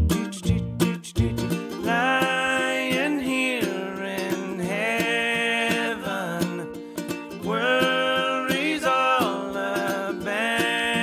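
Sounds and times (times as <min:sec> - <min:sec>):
light acoustic song: 0:00.0 - 0:11.0
strummed strings: 0:00.0 - 0:11.0.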